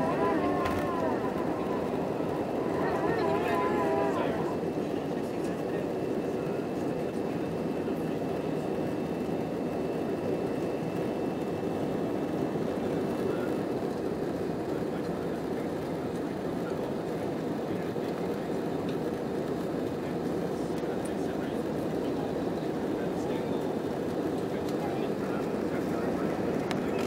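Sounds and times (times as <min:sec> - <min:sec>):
jet engines and airflow rushing: 0:00.0 - 0:27.0.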